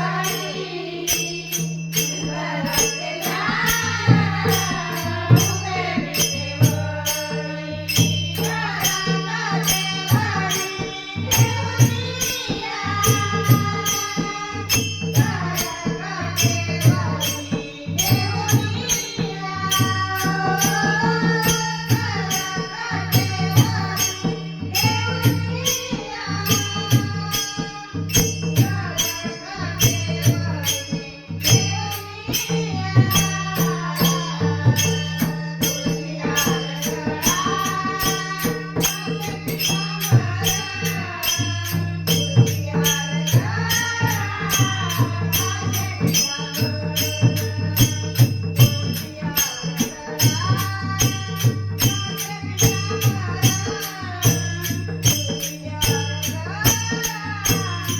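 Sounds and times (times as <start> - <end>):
jingling percussion beat: 0.0 - 57.9
mridang drum pattern: 0.0 - 57.9
woman singing: 0.0 - 57.9.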